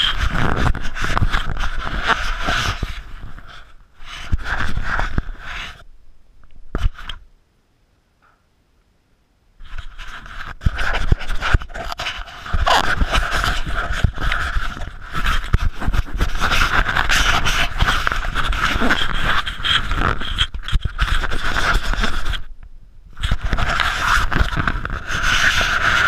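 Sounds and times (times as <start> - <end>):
towel rubbing on camera microphone: 0.0 - 5.9, 6.8 - 7.2, 9.6 - 22.5, 23.1 - 26.0.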